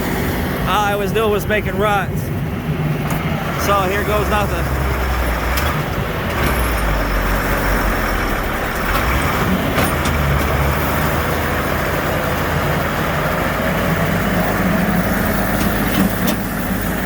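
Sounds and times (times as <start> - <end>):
tractor engine under load: 0.0 - 17.0.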